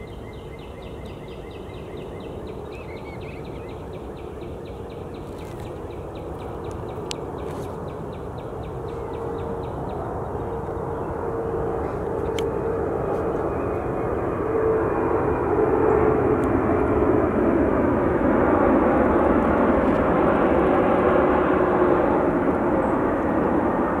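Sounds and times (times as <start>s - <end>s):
airplane engine drone: 0.0s - 24.0s.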